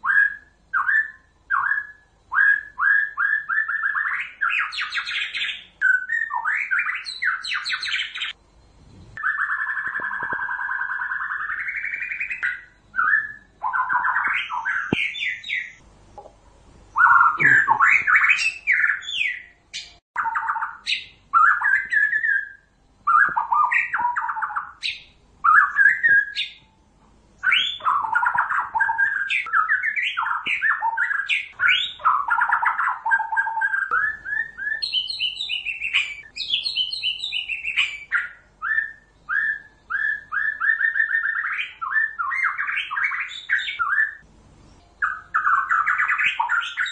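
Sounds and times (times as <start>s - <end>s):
bird singing whistled phrases: 0.0s - 8.4s, 9.2s - 15.8s, 16.9s - 26.7s, 27.4s - 44.2s, 45.0s - 46.9s.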